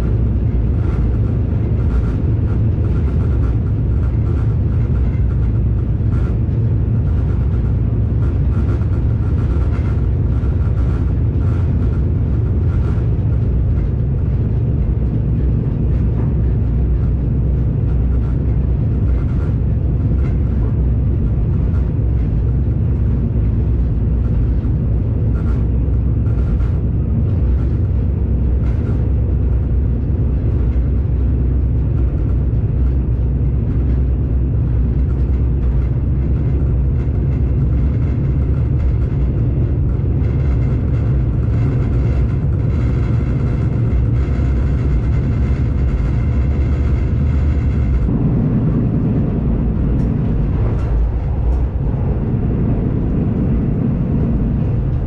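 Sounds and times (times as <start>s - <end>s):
train carriage rumbling: 0.0s - 55.0s.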